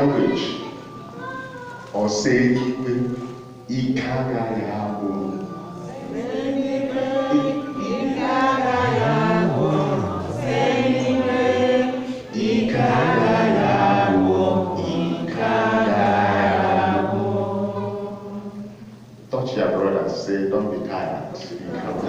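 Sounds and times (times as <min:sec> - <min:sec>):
congregation singing gospel chorus: 0:00.0 - 0:22.0.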